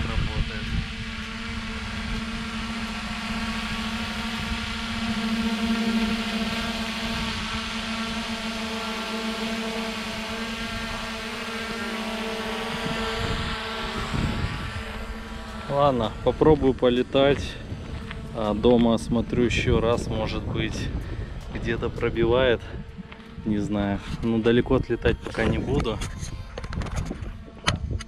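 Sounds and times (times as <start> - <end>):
quadcopter motors humming: 0.0 - 28.0.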